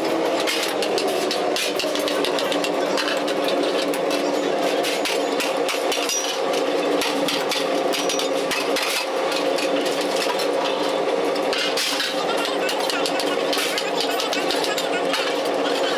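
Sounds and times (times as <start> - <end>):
machinery humming: 0.0 - 15.9.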